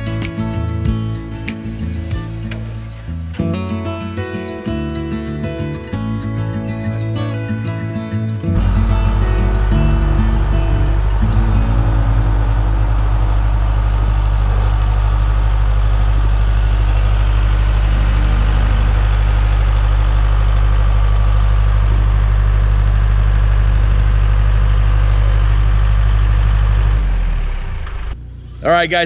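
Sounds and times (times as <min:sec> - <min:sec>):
engine running with deep hum: 0:00.0 - 0:29.0.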